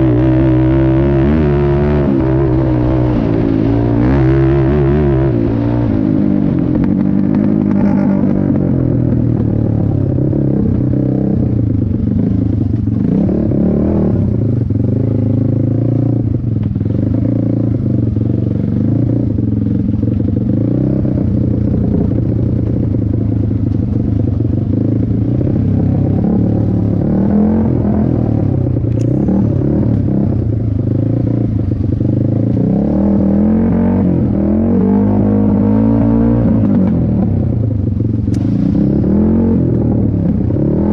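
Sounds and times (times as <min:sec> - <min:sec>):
quad engine revving: 0:00.0 - 0:16.4, 0:20.4 - 0:40.9.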